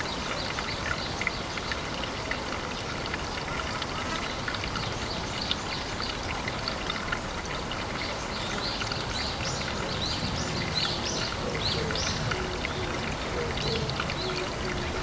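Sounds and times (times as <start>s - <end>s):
water trickling and pouring: 0.0s - 15.0s.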